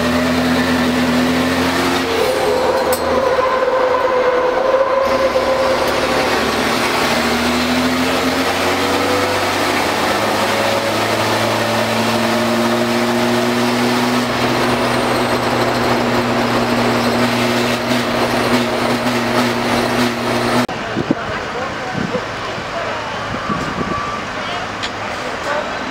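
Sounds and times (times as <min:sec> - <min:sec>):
road and wind noise: 0:00.0 - 0:25.9
truck diesel engine running: 0:00.0 - 0:25.9.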